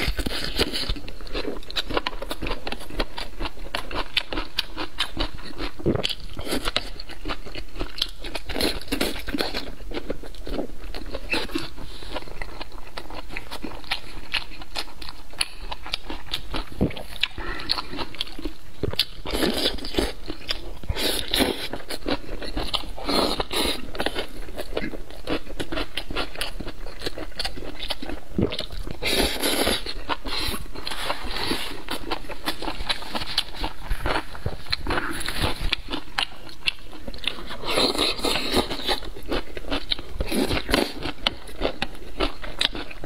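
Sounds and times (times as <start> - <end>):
chewing noodles: 0.0 - 43.0.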